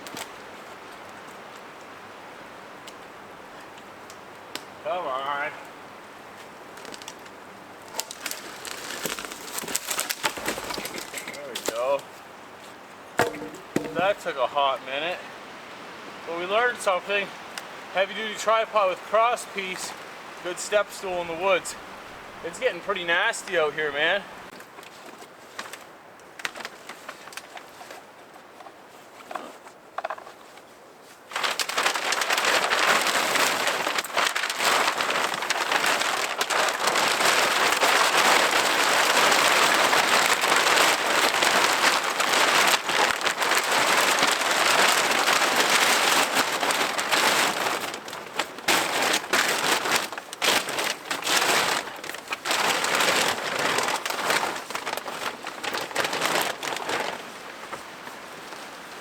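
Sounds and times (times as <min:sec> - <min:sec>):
snow pelting in wind: 0:04.3 - 0:12.6, 0:13.4 - 0:24.7, 0:30.8 - 0:59.0.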